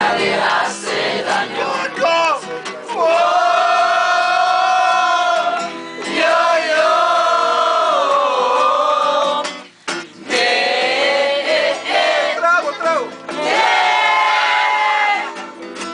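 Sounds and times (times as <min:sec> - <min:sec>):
group of voices singing: 0:00.0 - 0:15.5.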